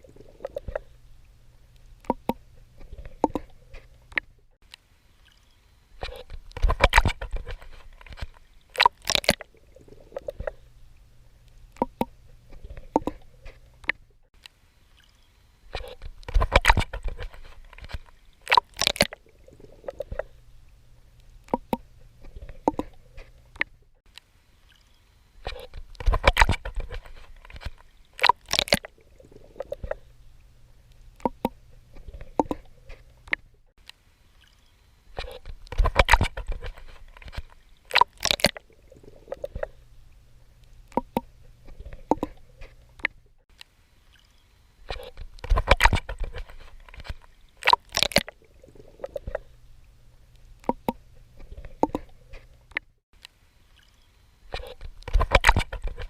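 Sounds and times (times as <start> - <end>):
water splashing from swimming: 0.0 - 4.3, 5.1 - 14.0, 14.8 - 23.8, 24.4 - 33.4, 34.3 - 43.2, 44.0 - 49.6, 50.4 - 52.8, 53.7 - 56.0
water dripping: 0.0 - 21.9, 22.5 - 31.6, 32.2 - 44.5, 45.2 - 51.1.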